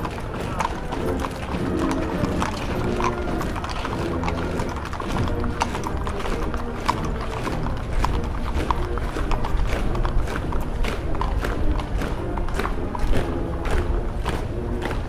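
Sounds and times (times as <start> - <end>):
band playing: 0.0 - 15.0
horses' hooves clip-clopping: 0.0 - 15.0.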